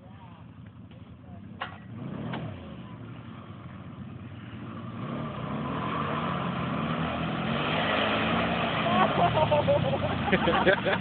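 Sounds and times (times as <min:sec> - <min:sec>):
off-road vehicle engine revving: 0:00.9 - 0:11.0.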